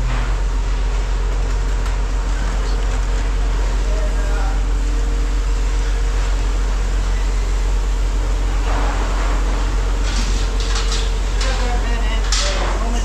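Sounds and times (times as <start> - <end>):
low machine rumble: 0.0 - 13.0.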